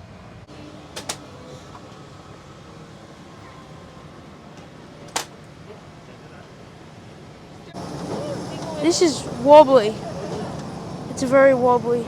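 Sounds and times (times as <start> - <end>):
air-conditioning hum: 0.0 - 12.0.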